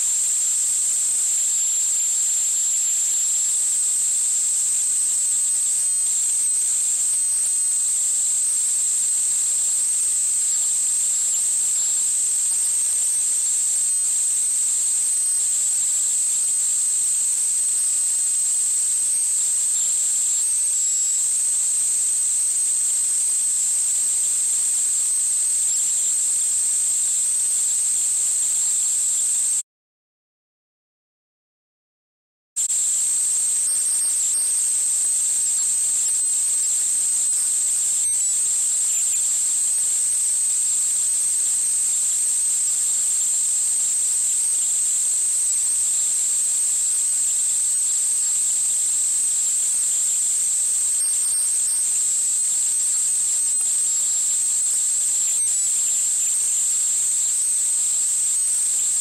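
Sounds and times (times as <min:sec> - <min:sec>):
high-pitched hiss with whistle tone: 0:00.0 - 0:29.6, 0:32.6 - 0:59.0.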